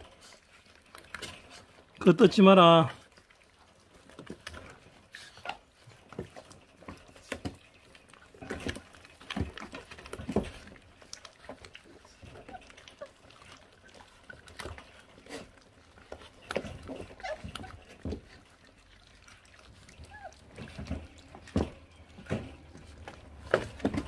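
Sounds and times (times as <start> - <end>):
puppies chewing meat and bone: 0.0 - 24.0.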